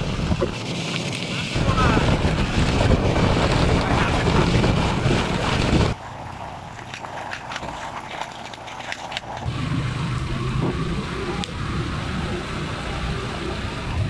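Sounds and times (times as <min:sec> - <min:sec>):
wind buffeting microphone: 0:00.0 - 0:12.4
motorcycle engine and road rumble: 0:00.0 - 0:14.0.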